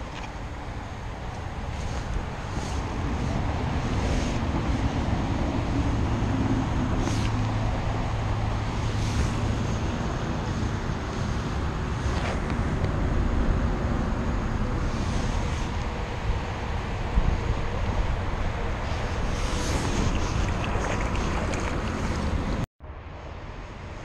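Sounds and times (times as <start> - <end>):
outdoor background rumble: 0.0 - 24.0.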